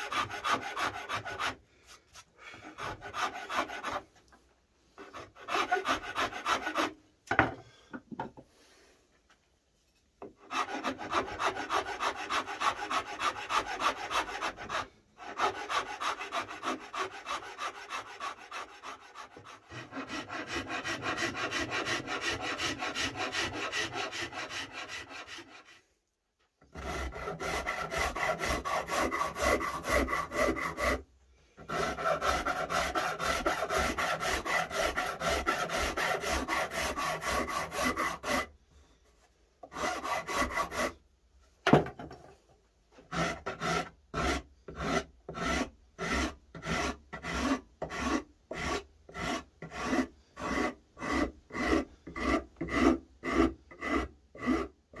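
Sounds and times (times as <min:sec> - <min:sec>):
metal file rasping on wood: 0:00.0 - 0:04.1, 0:05.0 - 0:07.5, 0:10.3 - 0:25.9, 0:26.6 - 0:38.5, 0:39.6 - 0:41.0, 0:43.0 - 0:55.0.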